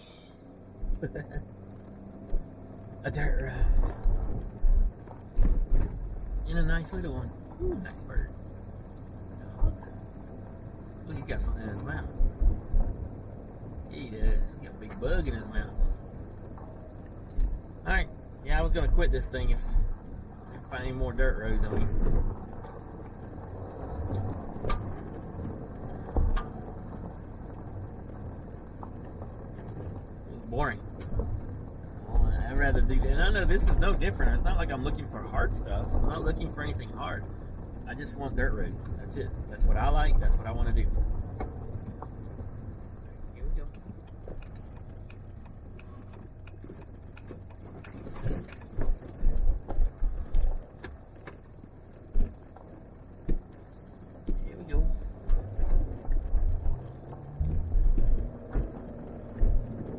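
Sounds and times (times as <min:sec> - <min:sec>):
vehicle engine and tyres rumbling: 0:00.0 - 0:59.9.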